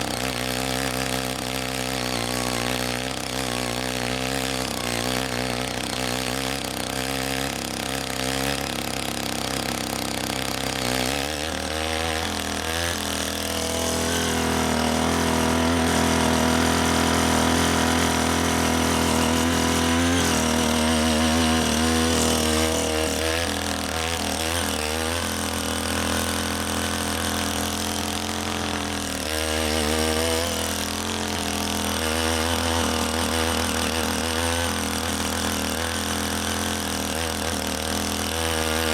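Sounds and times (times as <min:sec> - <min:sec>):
small tiller engine running: 0:00.0 - 0:38.9
tines churning wet soil: 0:00.0 - 0:38.9.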